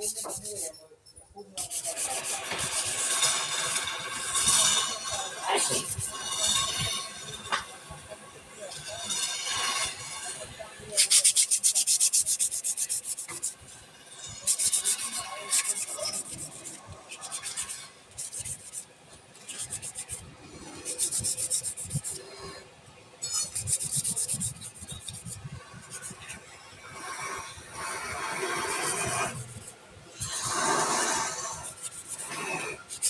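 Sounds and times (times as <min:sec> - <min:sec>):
wood scraping on a lathe: 0:01.6 - 0:08.1, 0:11.0 - 0:33.0.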